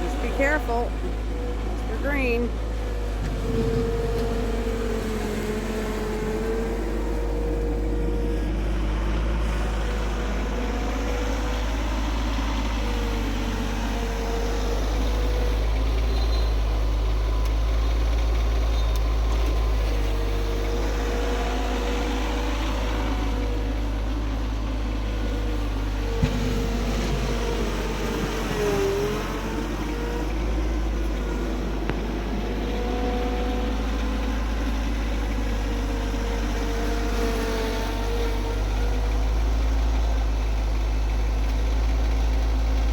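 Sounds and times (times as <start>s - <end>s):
tractor engine whining: 0.0s - 42.9s.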